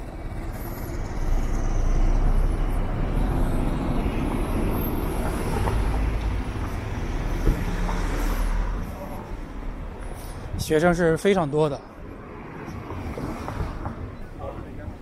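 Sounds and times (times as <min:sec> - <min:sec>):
cars passing slowly: 0:00.0 - 0:15.0
engine and tyre rumble: 0:00.0 - 0:15.0.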